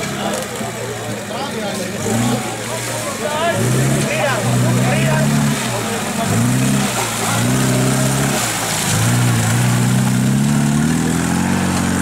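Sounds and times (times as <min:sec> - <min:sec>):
tractor engine working hard: 0:00.0 - 0:12.0.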